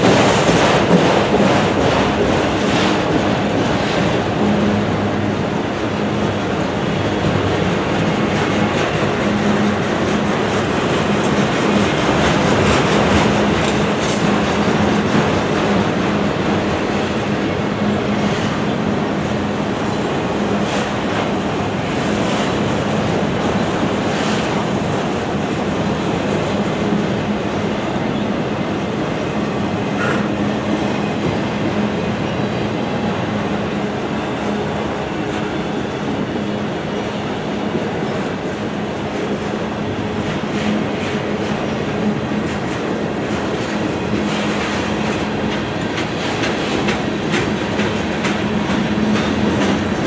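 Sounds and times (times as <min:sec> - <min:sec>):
train cars clanking: 0:00.0 - 0:50.0
train wheels rumbling on rails: 0:00.0 - 0:50.0.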